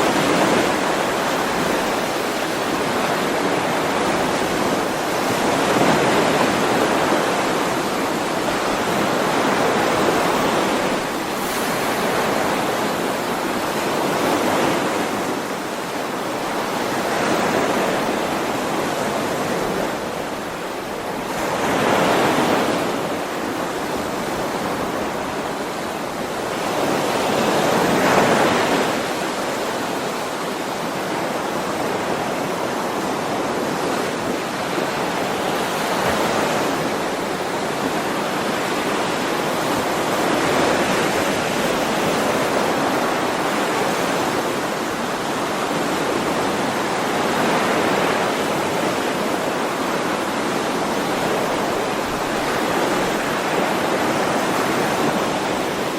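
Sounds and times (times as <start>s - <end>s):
ocean waves on shore: 0.0s - 55.9s.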